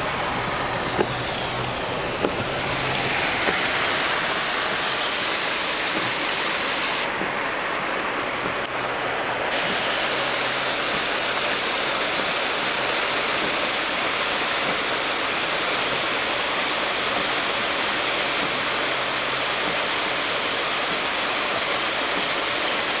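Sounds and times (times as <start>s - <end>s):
water rushing down a lane: 0.0s - 23.0s.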